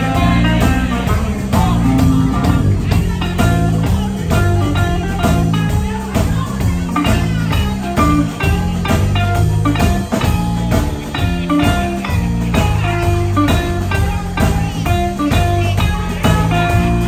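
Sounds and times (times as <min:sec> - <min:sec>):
bass and drums: 0:00.0 - 0:17.0.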